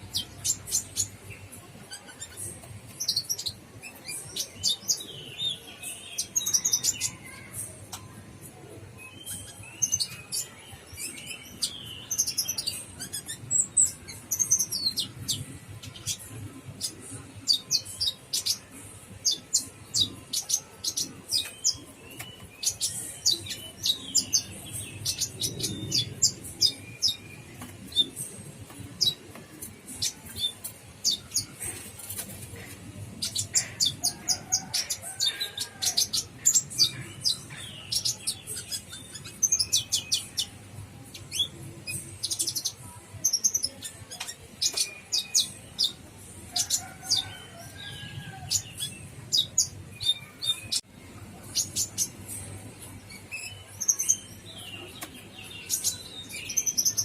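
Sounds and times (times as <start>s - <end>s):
bird chirping and twittering: 0.0s - 8.1s, 9.0s - 57.0s.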